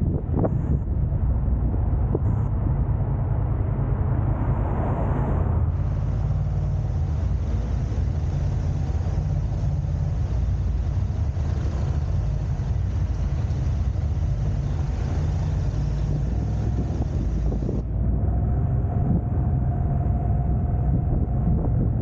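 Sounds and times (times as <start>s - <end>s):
car driving road and wind noise: 0.0s - 22.0s.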